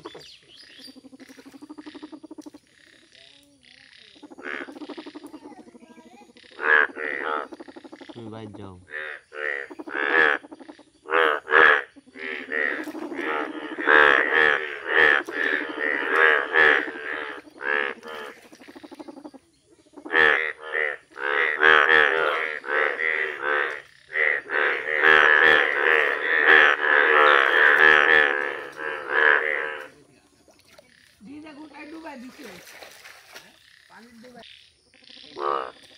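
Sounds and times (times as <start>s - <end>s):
frogs croaking in chorus: 0.0s - 35.9s.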